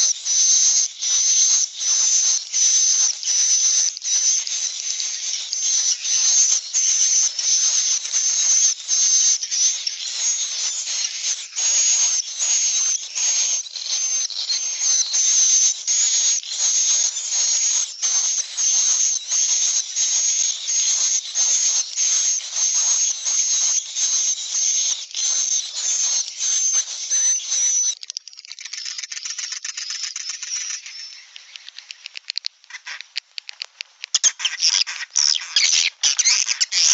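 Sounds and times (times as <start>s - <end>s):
rapid high-pitched chirps: 0.0s - 33.2s, 34.1s - 36.9s.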